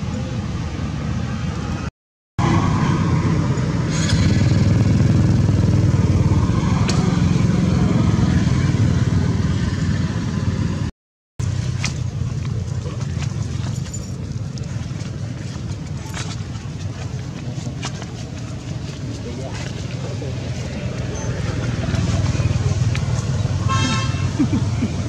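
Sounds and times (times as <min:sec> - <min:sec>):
vehicle engine droning: 0:01.2 - 0:25.0.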